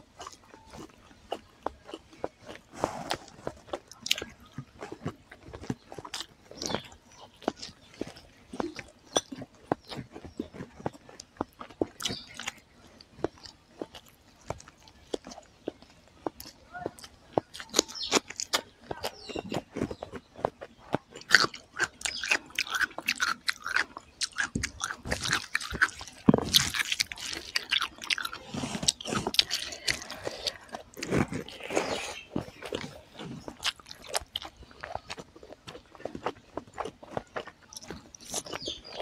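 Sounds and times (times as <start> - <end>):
wet chewing and lip-smacking: 0.0 - 39.0.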